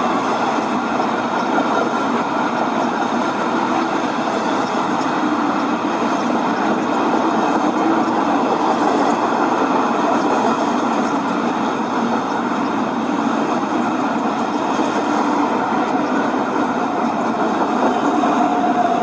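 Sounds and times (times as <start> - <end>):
model train rolling rumble: 0.0 - 19.0.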